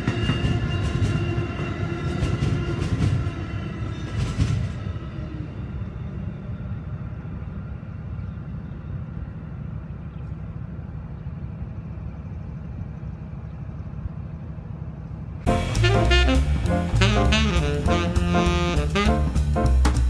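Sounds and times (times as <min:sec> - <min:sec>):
diesel locomotives rumbling: 0:00.0 - 0:20.0.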